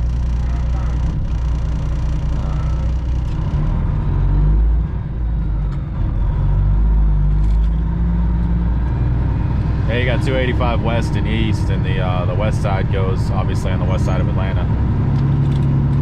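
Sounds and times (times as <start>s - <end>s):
diesel truck engine rumbling: 0.0s - 16.0s
road noise: 0.0s - 16.0s.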